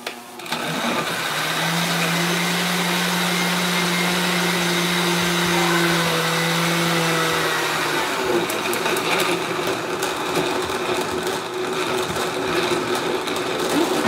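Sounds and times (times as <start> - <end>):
blender grinding: 0.0 - 14.0.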